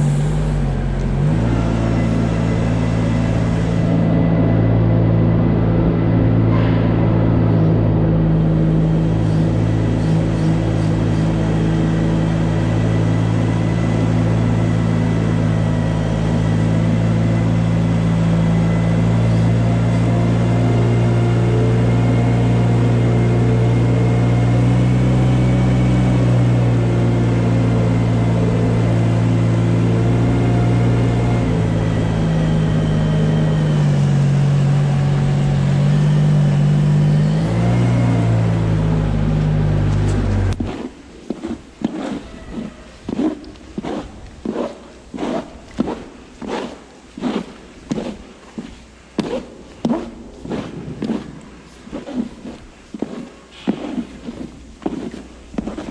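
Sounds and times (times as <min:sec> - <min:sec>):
loader engine running: 0:00.0 - 0:55.9.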